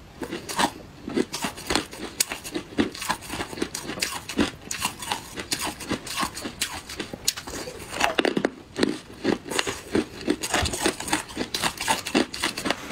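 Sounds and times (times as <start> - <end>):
ice being chewed: 0.2 - 12.9.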